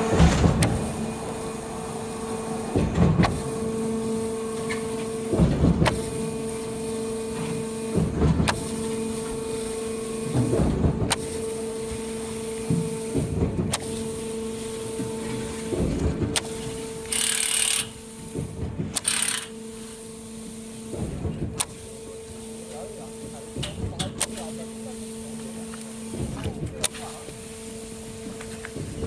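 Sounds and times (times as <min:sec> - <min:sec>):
pump clunk and rush: 0:00.0 - 0:19.6, 0:23.1 - 0:29.0
concrete mixer pump humming: 0:00.0 - 0:29.0.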